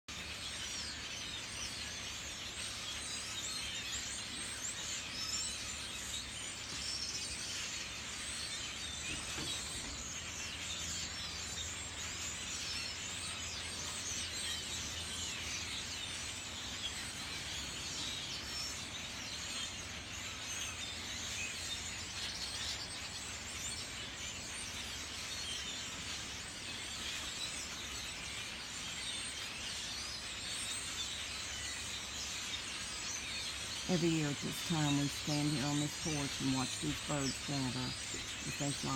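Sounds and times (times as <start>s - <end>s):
flock of birds chattering: 0.1s - 38.9s.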